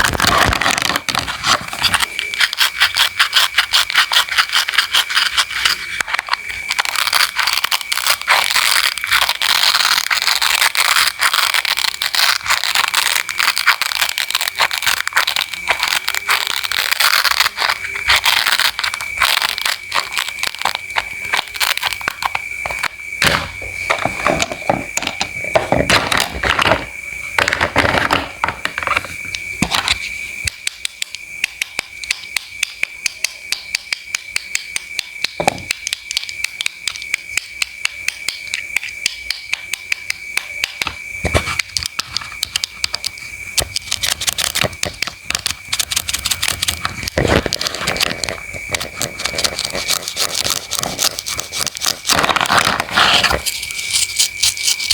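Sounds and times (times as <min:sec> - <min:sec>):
faint steady high tone: 0:01.8 - 0:51.8.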